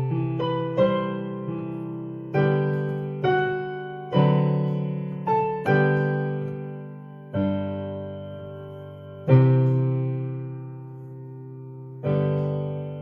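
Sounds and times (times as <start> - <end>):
sustained piano chords: 0.0 - 13.0.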